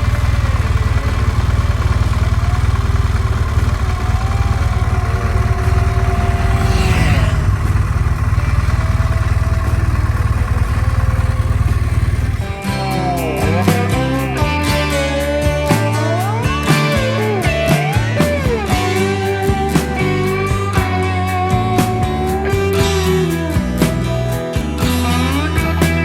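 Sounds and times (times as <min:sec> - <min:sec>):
motorcycle engine drone: 0:00.0 - 0:26.0.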